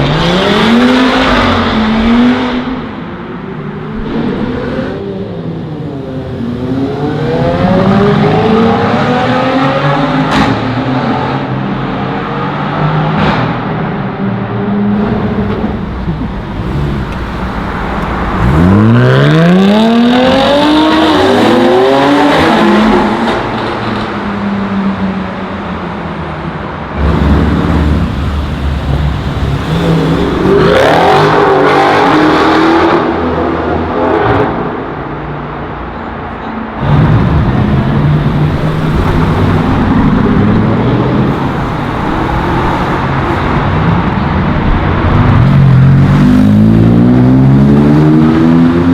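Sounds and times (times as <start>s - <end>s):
sports cars revving and accelerating: 0.0s - 35.9s, 36.6s - 48.9s.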